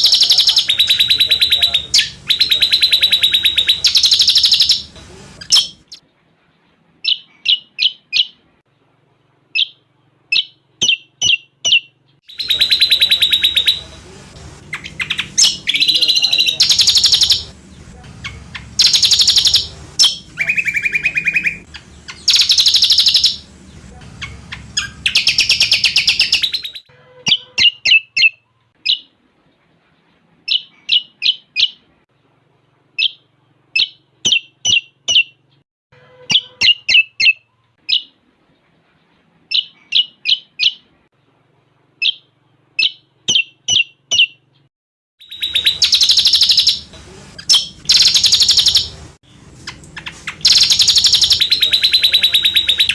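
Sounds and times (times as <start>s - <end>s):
songbird singing: 0.0s - 8.5s, 9.5s - 29.6s, 30.5s - 31.9s, 33.0s - 38.6s, 42.0s - 49.0s, 49.6s - 52.9s.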